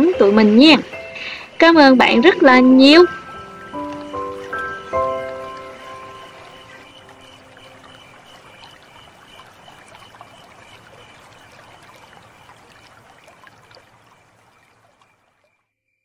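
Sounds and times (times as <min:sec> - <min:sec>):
running water trickling: 0:00.0 - 0:15.7.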